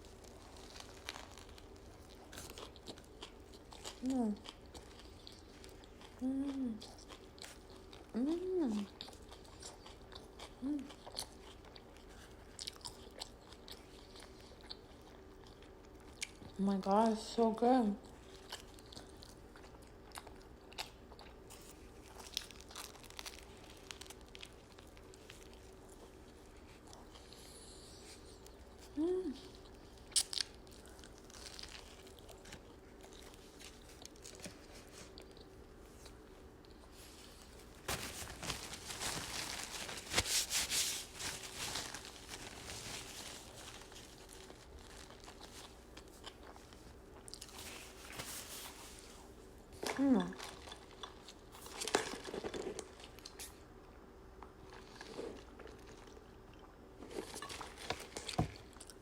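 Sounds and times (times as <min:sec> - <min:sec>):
chewing sandwich: 0:00.0 - 0:16.6, 0:18.0 - 0:48.1, 0:48.7 - 0:59.0.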